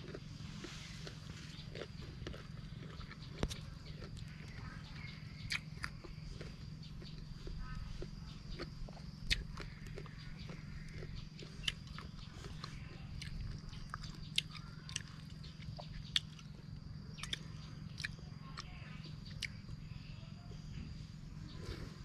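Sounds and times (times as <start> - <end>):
biting and chewing crunchy fruit: 0.0 - 20.0.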